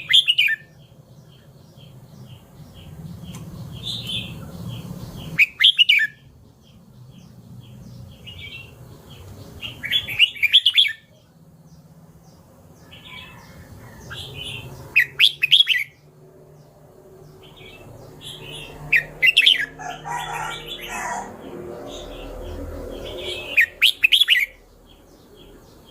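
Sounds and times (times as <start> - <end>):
bird warbling song: 0.0 - 25.9.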